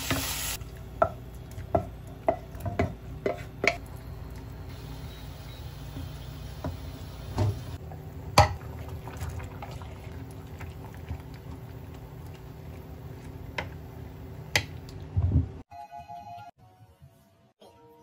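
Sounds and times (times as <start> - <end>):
soup simmering in a pot: 0.2 - 15.0.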